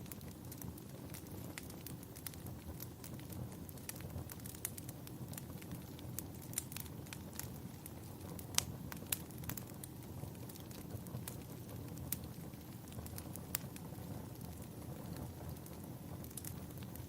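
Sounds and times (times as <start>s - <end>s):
fire popping: 0.0s - 17.0s
low fire rumble: 0.0s - 17.0s
wood fire crackling: 0.0s - 17.0s.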